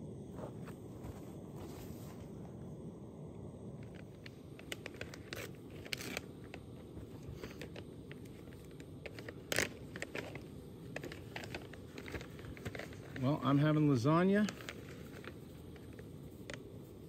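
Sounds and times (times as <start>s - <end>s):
handling crackles and scrapes: 0.2s - 2.6s, 3.8s - 17.0s.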